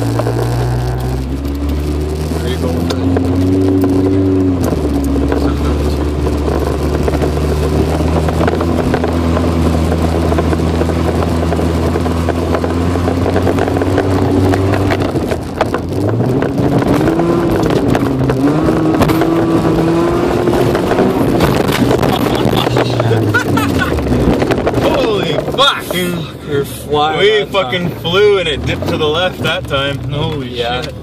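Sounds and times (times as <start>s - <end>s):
car knocks and rattles: 0.0s - 26.0s, 27.7s - 31.0s
car engine revving: 0.0s - 31.0s.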